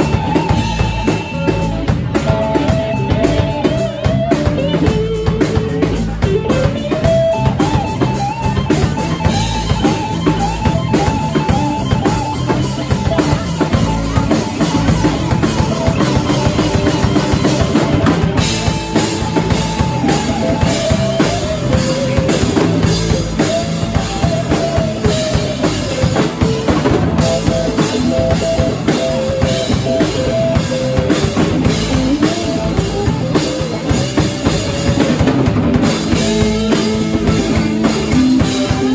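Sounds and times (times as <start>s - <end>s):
drum kit beat: 0.0s - 38.9s
live band playing: 0.0s - 38.9s.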